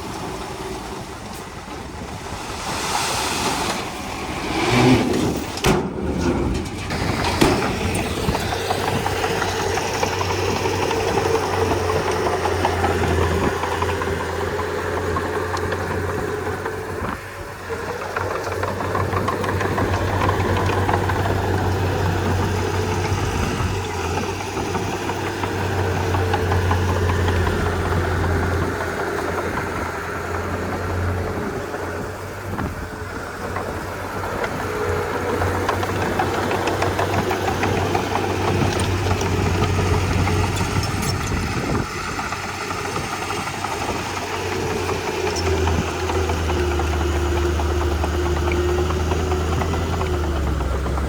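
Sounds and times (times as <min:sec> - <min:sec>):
bulldozer diesel engine droning: 0:00.0 - 0:51.0.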